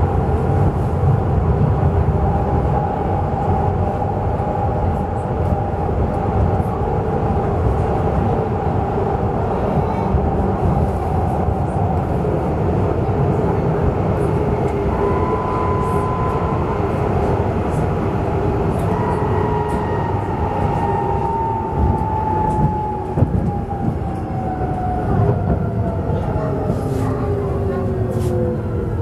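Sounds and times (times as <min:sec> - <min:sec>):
rumble of train wheels: 0:00.0 - 0:29.0.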